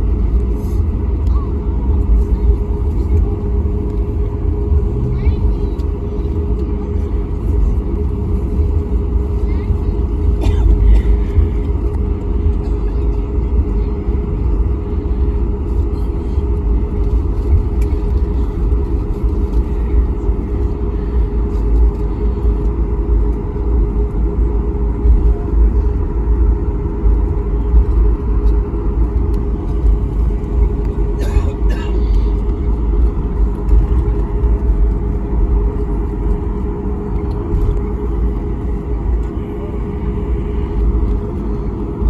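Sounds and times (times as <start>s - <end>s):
jet engines idling rumble: 0.0s - 42.0s
steady hum: 0.0s - 42.0s.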